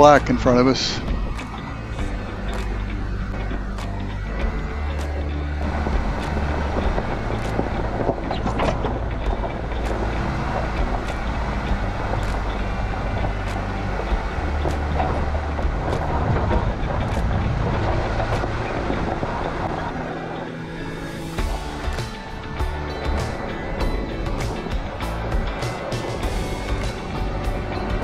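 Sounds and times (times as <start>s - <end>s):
background music: 0.0s - 28.0s
car engine: 0.0s - 28.0s
tyres on gravel: 0.0s - 28.0s.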